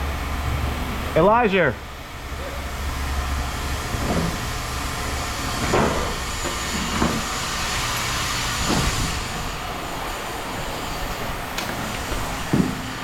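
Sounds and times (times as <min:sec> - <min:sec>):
machinery noise with hiss: 0:00.0 - 0:13.0.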